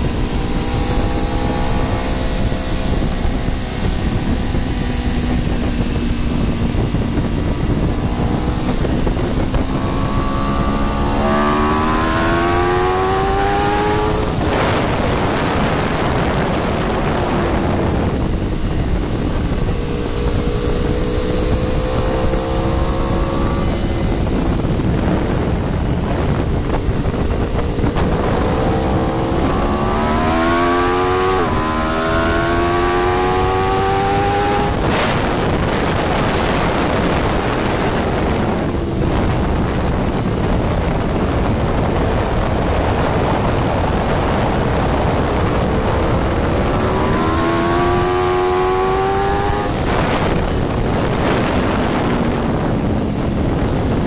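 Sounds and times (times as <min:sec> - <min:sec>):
loud wind rush: 0:00.0 - 0:54.0
motorcycle engine accelerating: 0:00.0 - 0:54.0.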